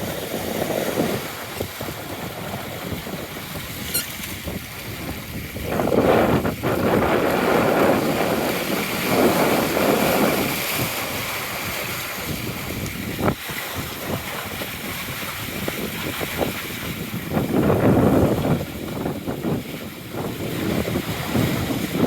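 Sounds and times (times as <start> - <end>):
water rushing past hull: 0.0 - 22.0
wind buffeting microphone: 0.0 - 22.0.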